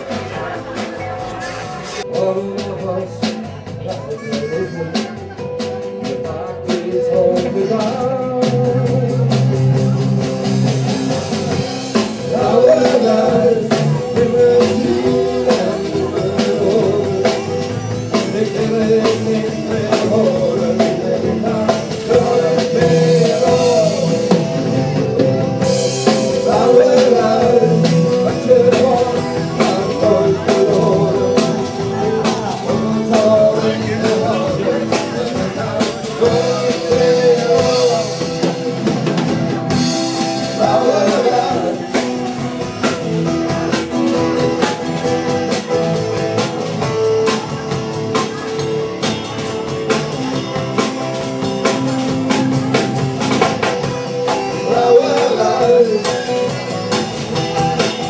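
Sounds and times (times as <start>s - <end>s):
drum kit beat: 0.0s - 58.0s
electric guitars: 0.0s - 58.0s.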